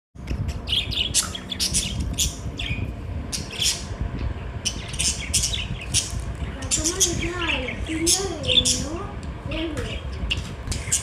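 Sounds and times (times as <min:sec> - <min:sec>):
steady low rumble: 0:00.2 - 0:11.0
birds squawking and chirping: 0:00.3 - 0:11.0.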